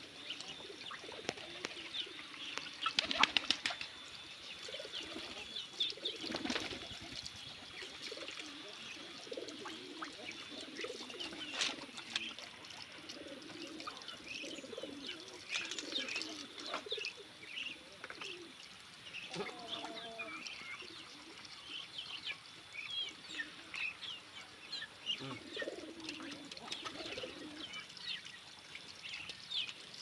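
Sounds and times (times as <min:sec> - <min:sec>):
doves cooing: 0:00.0 - 0:21.8, 0:23.1 - 0:28.2.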